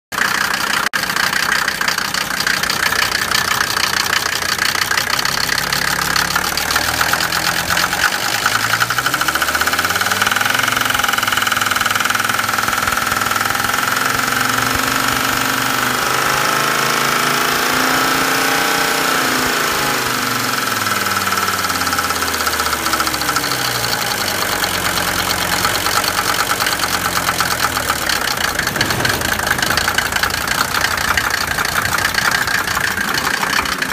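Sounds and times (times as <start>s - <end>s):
diesel engine knocking clatter: 0.1s - 33.9s.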